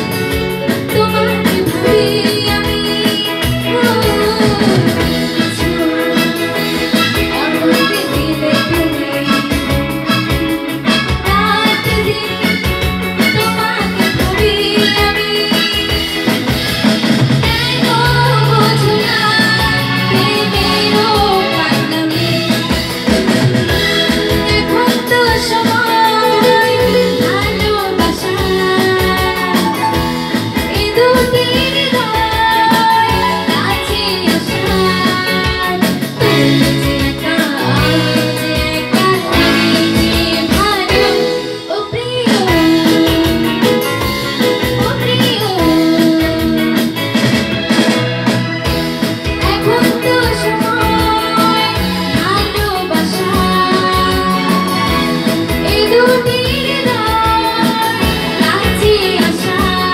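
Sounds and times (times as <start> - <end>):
woman singing into a microphone: 0.0 - 48.0, 48.6 - 59.9
bass guitar: 0.0 - 59.9
electronic drum pads beat: 0.0 - 59.9
keyboard: 0.0 - 59.9.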